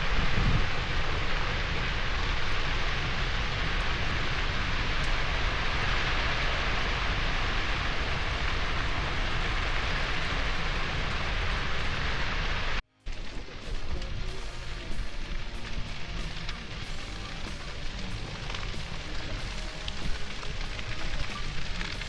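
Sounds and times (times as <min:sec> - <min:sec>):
grass fire rushing: 0:00.0 - 0:22.0.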